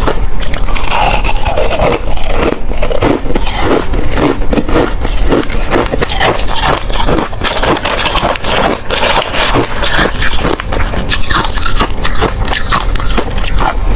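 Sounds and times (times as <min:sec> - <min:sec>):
ice being chewed: 0:00.0 - 0:13.9.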